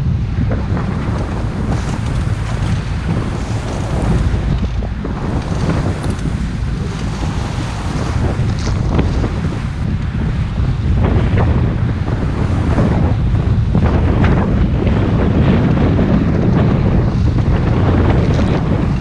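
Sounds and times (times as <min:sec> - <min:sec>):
water rushing along boat hull: 0:00.0 - 0:19.0
wind buffeting microphone: 0:00.0 - 0:19.0.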